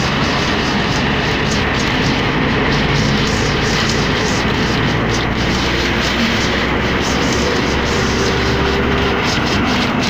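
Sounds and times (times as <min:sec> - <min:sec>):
bus engine running: 0:00.0 - 0:10.0
wind and road noise: 0:00.0 - 0:10.0.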